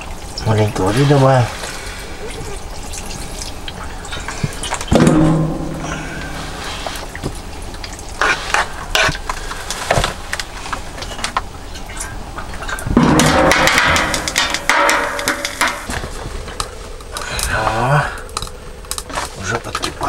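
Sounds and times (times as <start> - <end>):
water crackling in hot pan: 0.0 - 20.0.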